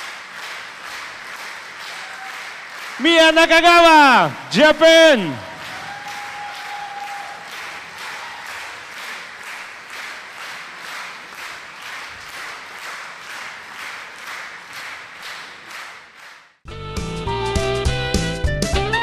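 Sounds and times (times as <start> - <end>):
audience clapping in rhythm: 0.0 - 16.7.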